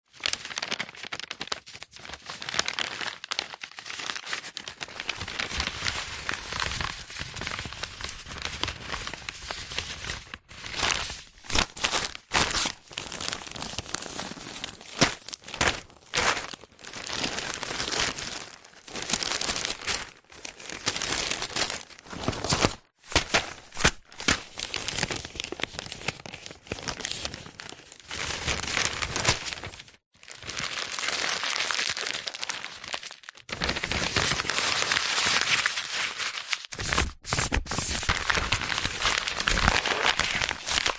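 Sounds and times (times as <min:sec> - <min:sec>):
paper crumpling and rustling: 0:00.1 - 0:40.9.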